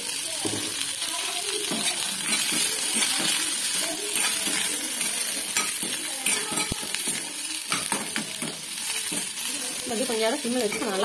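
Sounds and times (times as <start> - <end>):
okra sizzling in hot oil: 0.0 - 11.0
steel spoon scraping a pan: 1.6 - 11.0.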